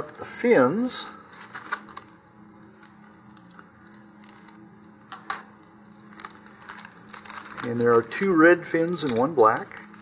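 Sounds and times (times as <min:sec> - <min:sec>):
plastic bag crinkling and clicking: 0:01.3 - 0:10.0.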